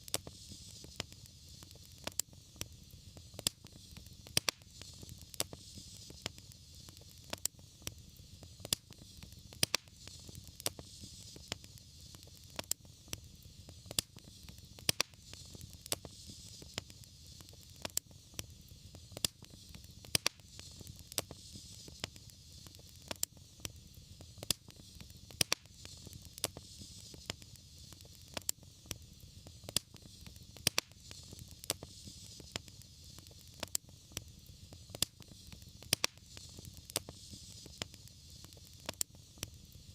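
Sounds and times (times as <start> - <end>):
fire rumble and hiss: 0.0 - 39.9
wood fire pops and snaps: 0.0 - 39.9.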